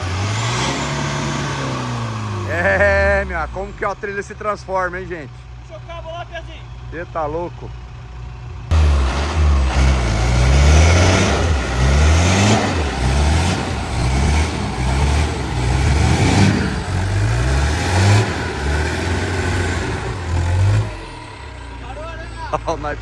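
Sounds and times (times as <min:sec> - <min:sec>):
off-road engine revving: 0:00.0 - 0:23.0.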